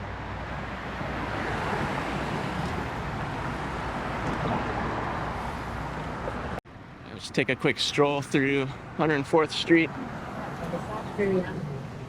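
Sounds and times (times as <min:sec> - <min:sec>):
passing cars rumble and hiss: 0:00.0 - 0:12.0.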